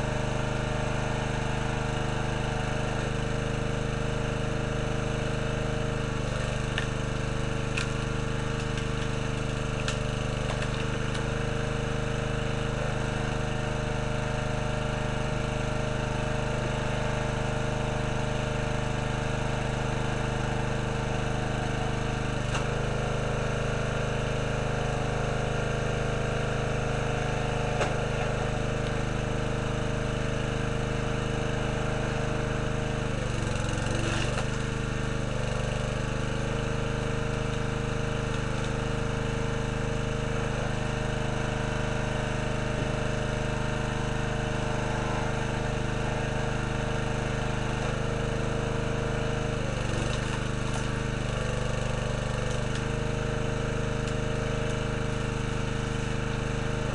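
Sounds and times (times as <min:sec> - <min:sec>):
small gasoline engine running: 0:00.0 - 0:56.9.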